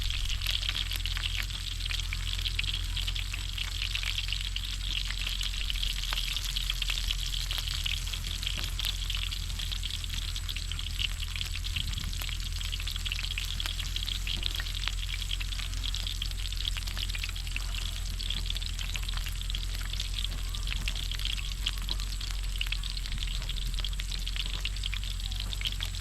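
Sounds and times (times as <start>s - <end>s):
meat sizzling in a hot pan: 0.0s - 26.0s
steady low hum: 0.0s - 26.0s.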